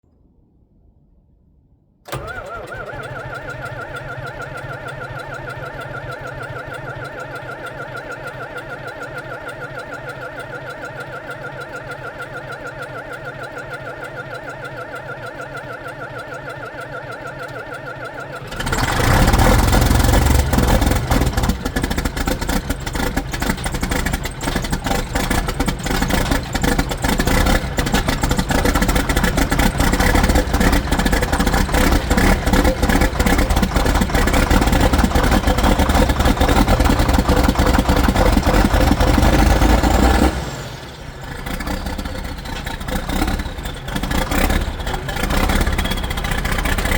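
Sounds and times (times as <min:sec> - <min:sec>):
diesel engine running roughly: 0:02.1 - 0:46.9
starter cranking engine: 0:02.1 - 0:46.9.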